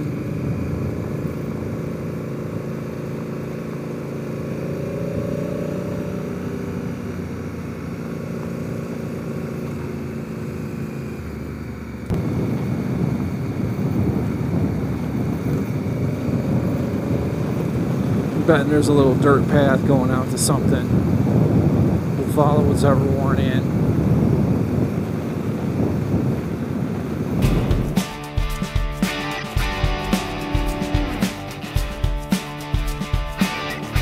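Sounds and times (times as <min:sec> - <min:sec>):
motorcycle engine running: 0:00.0 - 0:34.0
rough engine rumble: 0:00.0 - 0:34.0.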